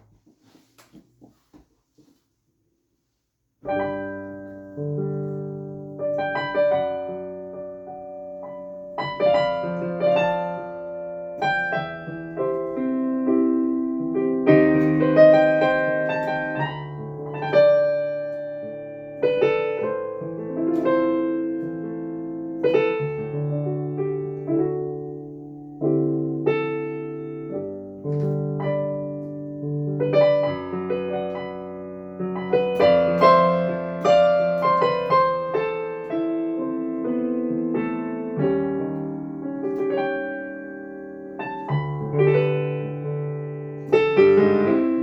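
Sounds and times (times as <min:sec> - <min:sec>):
piano playing slow chords: 0:03.6 - 0:45.0.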